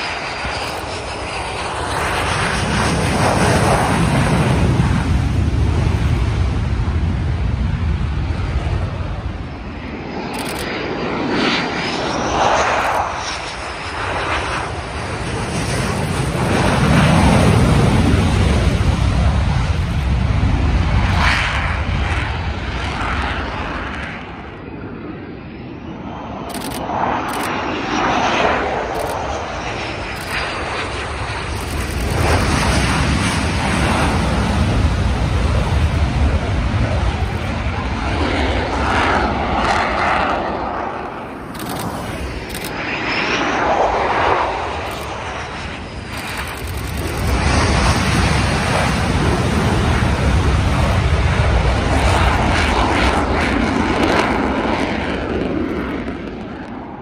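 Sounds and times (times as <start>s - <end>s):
jet aircraft noise: 0.0s - 57.0s.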